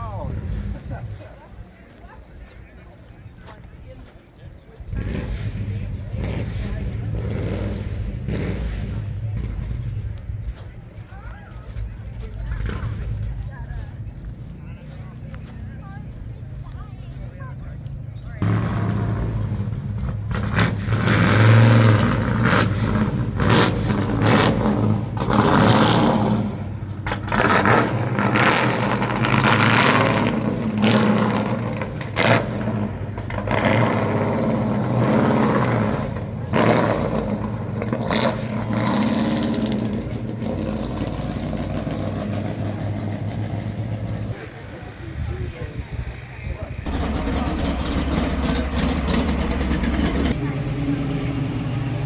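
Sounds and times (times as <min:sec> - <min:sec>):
car engine revving: 0:04.6 - 0:52.0.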